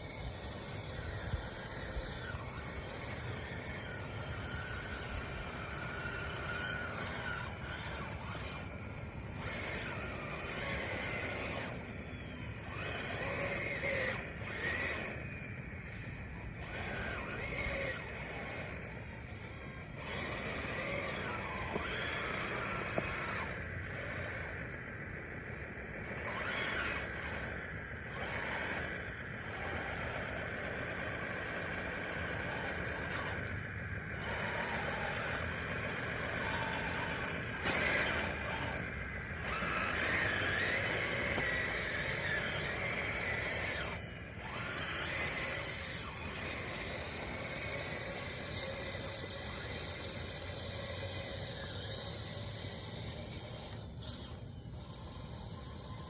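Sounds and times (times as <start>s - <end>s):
electric drive and gearbox whine: 0.0s - 56.0s
tracks squealing: 0.0s - 56.0s.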